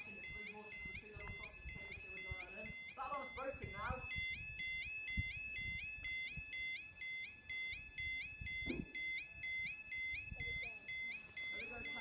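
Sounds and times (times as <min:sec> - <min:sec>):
electronic two-tone alarm yelp: 0:00.0 - 0:12.0.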